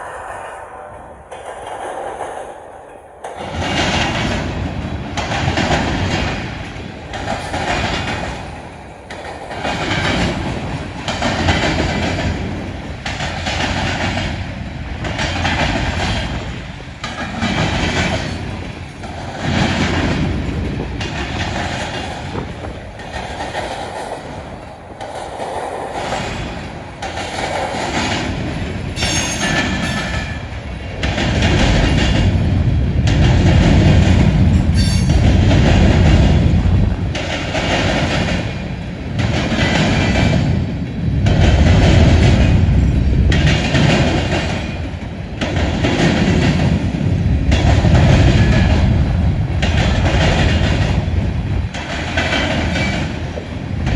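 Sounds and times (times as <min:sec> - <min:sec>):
freight train rolling past: 0:00.0 - 0:53.9
wheels clicking over rail joints: 0:01.3 - 0:32.4, 0:33.0 - 0:53.9.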